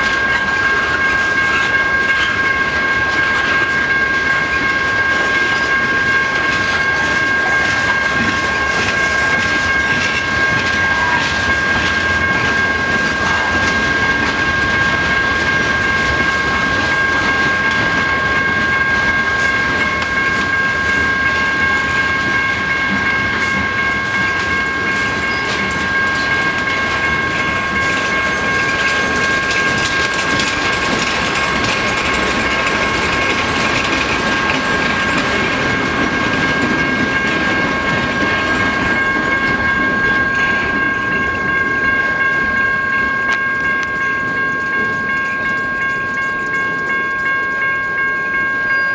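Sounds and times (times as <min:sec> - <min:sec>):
high-pitched ringing tone: 0:00.0 - 0:32.6, 0:36.4 - 0:48.9
train wheels clacking over rail joints: 0:00.0 - 0:47.7.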